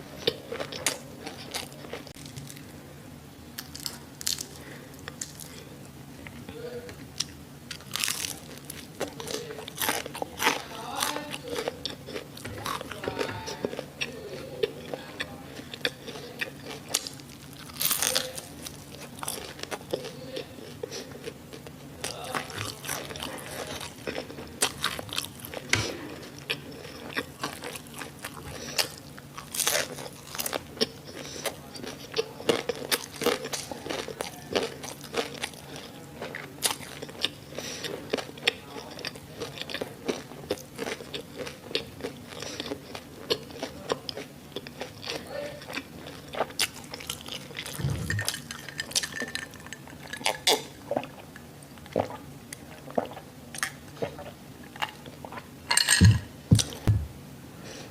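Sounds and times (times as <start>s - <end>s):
crunchy biting and chewing: 0.1s - 2.7s, 3.6s - 5.7s, 7.2s - 55.4s.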